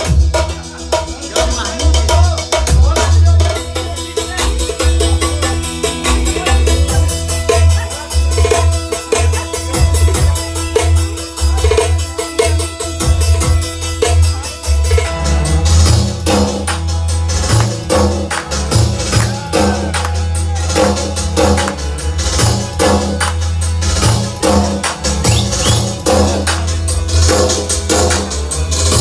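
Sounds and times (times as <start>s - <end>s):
fast drum beat: 0.0s - 29.0s
steady bass: 0.0s - 29.0s.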